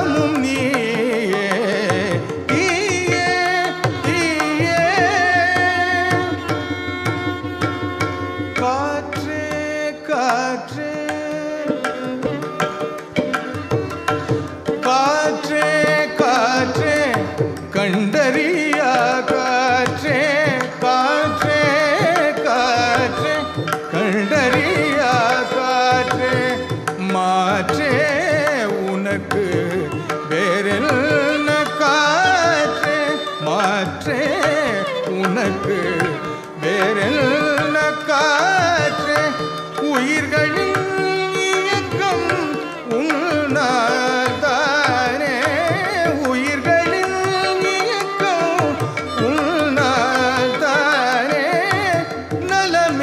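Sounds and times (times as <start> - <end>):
man singing: 0.0 - 7.2, 8.5 - 53.0
hand drum rhythm: 0.0 - 53.0
violin: 0.0 - 53.0.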